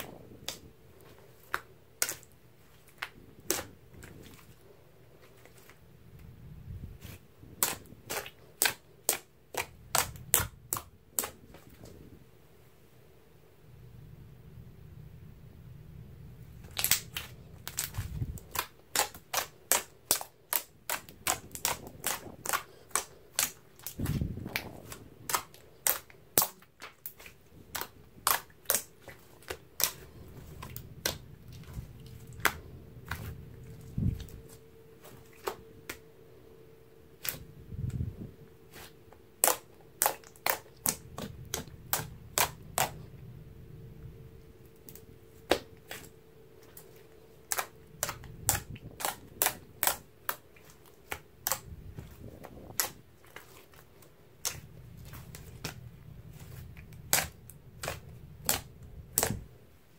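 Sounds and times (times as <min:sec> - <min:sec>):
soft squishing thuds: 0:00.0 - 0:12.2, 0:16.5 - 0:36.2, 0:37.1 - 0:43.3, 0:44.4 - 0:59.5.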